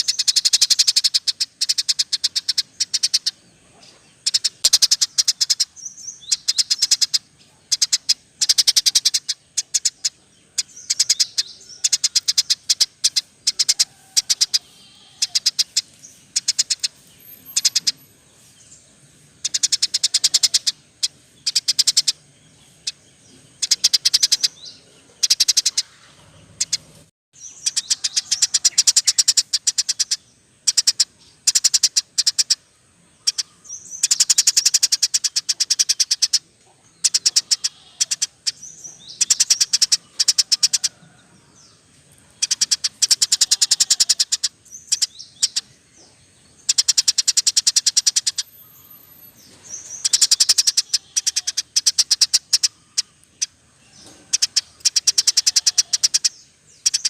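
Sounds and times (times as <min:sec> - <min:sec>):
songbird trilled chirps: 0:00.0 - 0:57.0.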